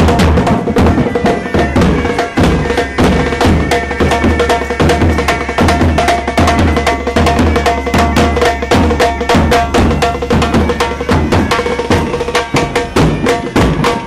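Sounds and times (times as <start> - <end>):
snare and bass drums beating: 0.0 - 14.0.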